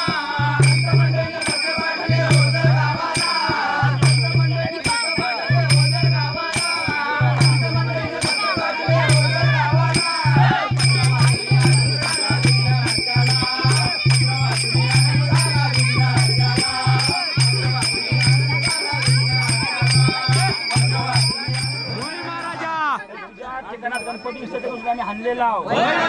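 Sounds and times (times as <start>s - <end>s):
fast jingling beat: 0.0s - 25.6s
voices singing devotional music: 0.0s - 26.0s.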